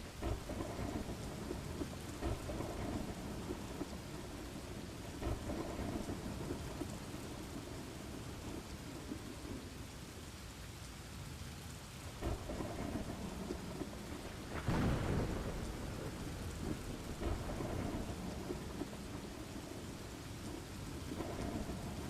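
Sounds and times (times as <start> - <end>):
thunder rolling: 0.0 - 9.8, 12.2 - 22.0
rain falling: 0.0 - 22.0.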